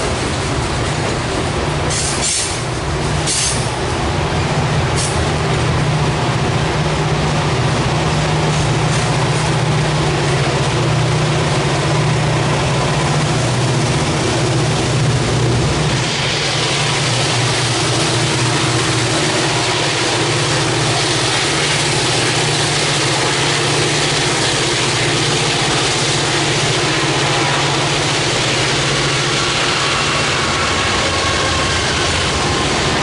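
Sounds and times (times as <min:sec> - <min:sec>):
diesel locomotives pushing: 0:00.0 - 0:33.0
rumble of wheels on rail: 0:00.0 - 0:33.0.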